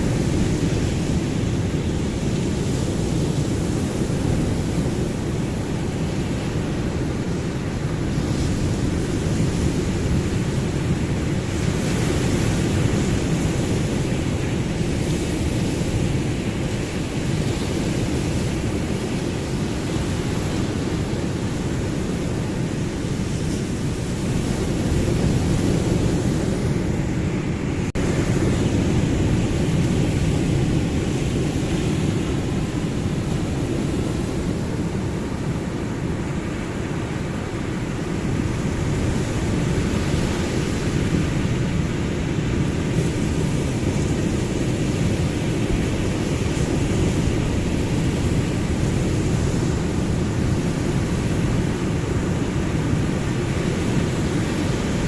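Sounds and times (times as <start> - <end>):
ocean surf rumbling: 0.0 - 55.0.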